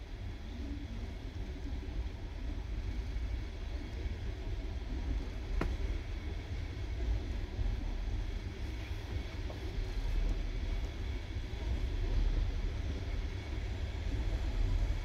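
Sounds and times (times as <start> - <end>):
low rumble of moving train: 0.0 - 15.0.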